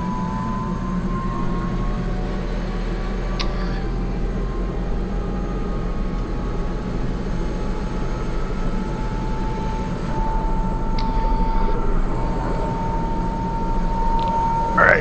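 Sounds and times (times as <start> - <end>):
helicopter engine and rotor hum: 0.0 - 15.0
thin high whine: 0.0 - 15.0.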